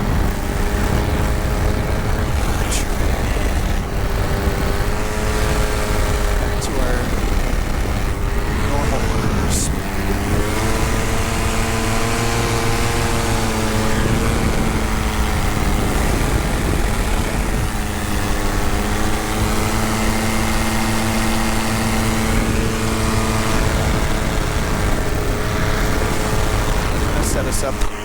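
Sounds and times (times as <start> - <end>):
paramotor engine and propeller drone: 0.0 - 28.0.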